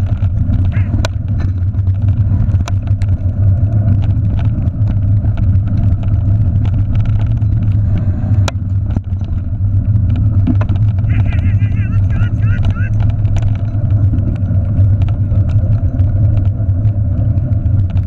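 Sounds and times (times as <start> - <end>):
trail rumble: 0.0 - 18.0
wind noise: 0.0 - 18.0.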